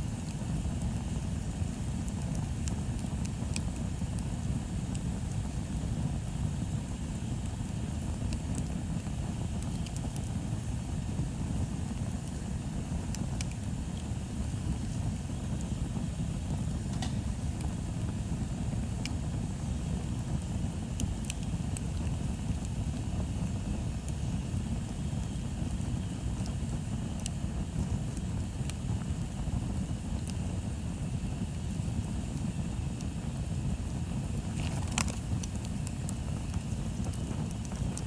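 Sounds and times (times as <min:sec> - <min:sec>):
bonfire rumbling with crackles: 0:00.0 - 0:38.0.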